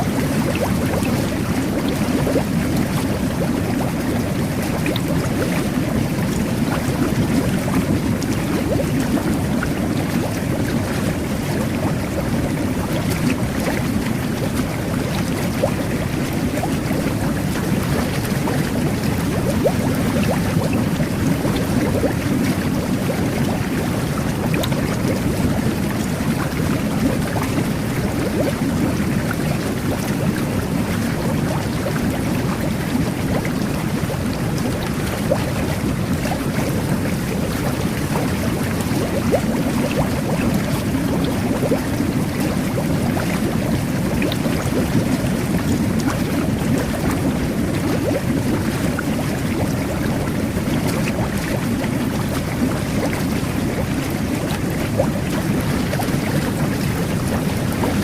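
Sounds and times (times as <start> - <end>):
jet bath water bubbling: 0.0 - 58.0.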